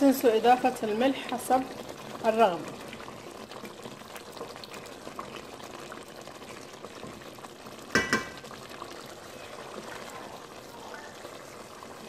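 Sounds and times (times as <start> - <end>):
thick sauce bubbling and popping: 0.0 - 12.0.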